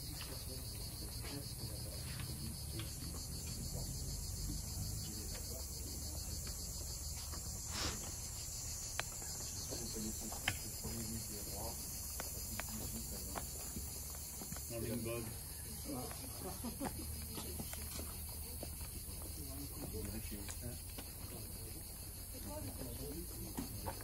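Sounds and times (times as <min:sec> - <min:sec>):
faint voices: 0:00.0 - 0:24.0
insects chorus: 0:00.0 - 0:24.0.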